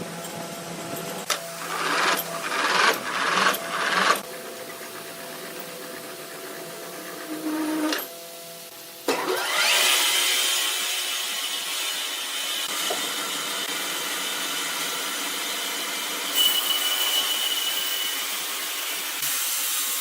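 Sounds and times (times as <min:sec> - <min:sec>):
saw cutting wood: 0:01.5 - 0:08.1, 0:09.1 - 0:20.0.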